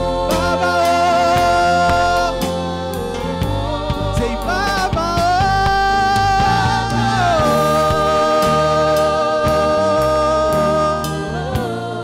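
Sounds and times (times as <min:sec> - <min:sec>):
band playing bass and drums: 0:00.0 - 0:11.8
person singing worship song: 0:00.0 - 0:12.0.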